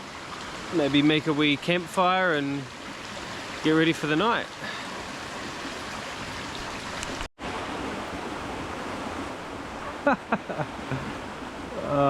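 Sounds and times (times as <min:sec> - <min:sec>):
stream rushing over stones: 0:00.0 - 0:10.0.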